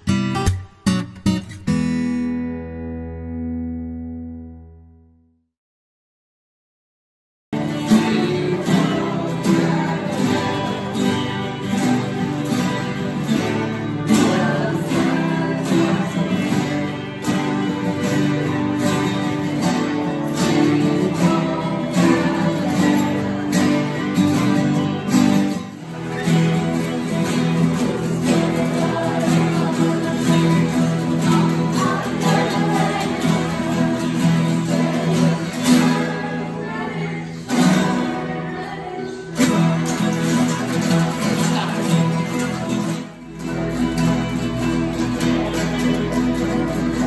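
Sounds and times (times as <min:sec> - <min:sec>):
acoustic guitars strumming: 0:00.0 - 0:05.0, 0:07.6 - 0:47.0.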